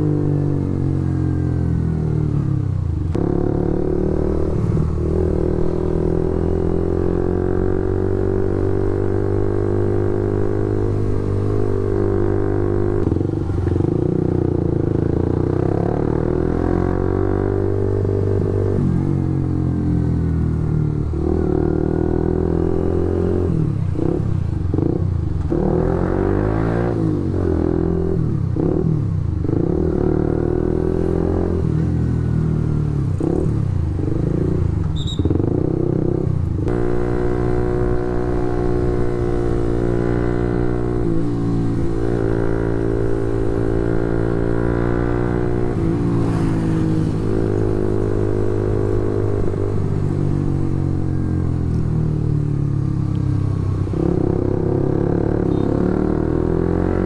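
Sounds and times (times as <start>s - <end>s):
motorcycle engine revving: 0.0s - 52.9s, 53.5s - 57.0s.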